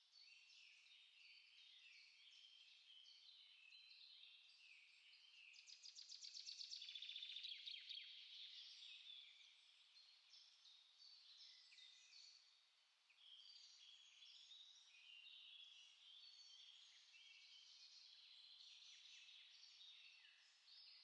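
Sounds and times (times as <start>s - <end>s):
songbirds chirping and whistling: 0.2s - 21.0s.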